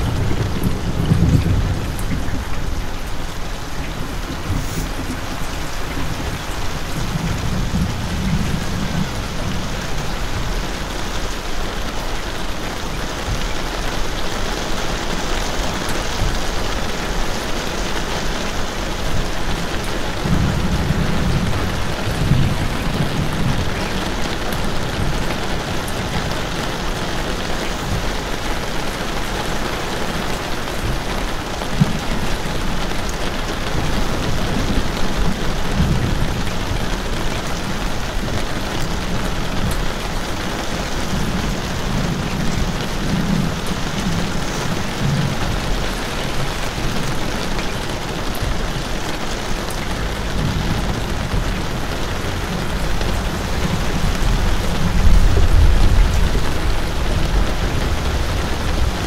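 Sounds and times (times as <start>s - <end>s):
rain splashing on hard surfaces: 0.0s - 59.0s.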